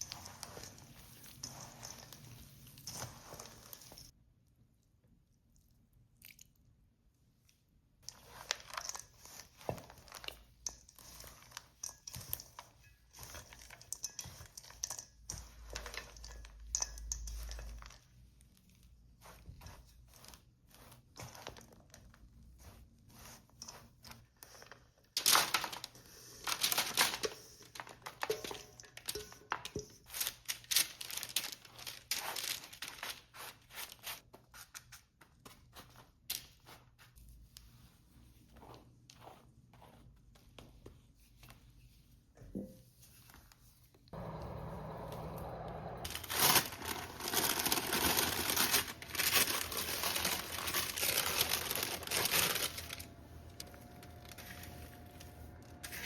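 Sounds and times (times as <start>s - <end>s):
dry ingredients rustling and crunching: 0.0s - 4.2s, 8.0s - 42.3s, 46.0s - 56.0s.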